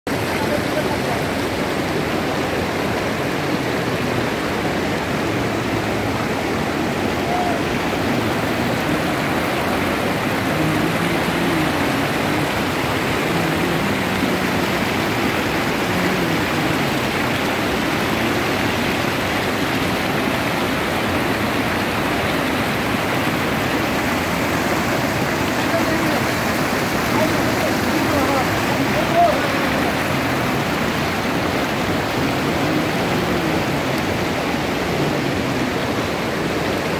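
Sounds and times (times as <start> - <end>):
river rushing over rapids: 0.1 - 36.9.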